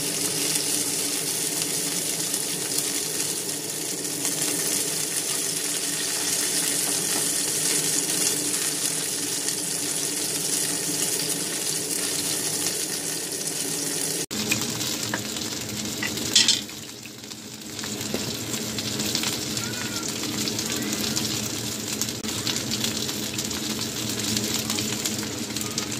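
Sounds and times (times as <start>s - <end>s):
chicken wings sizzling in a pan: 0.0s - 25.9s.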